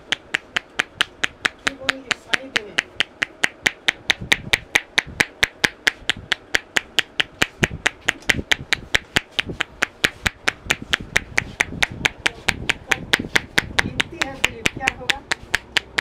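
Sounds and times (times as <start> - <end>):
hands clapping on head: 0.1 - 16.0.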